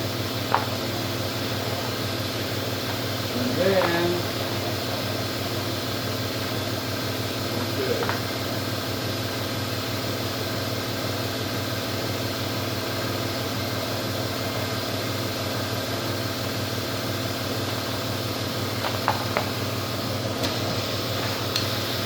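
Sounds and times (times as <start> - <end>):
fan humming: 0.0 - 22.0.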